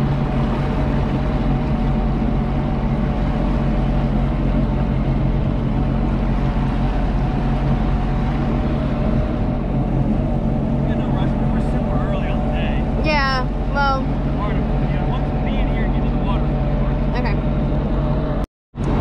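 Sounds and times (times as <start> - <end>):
water washing: 0.0 - 17.3
jet ski engine hum: 0.0 - 19.0.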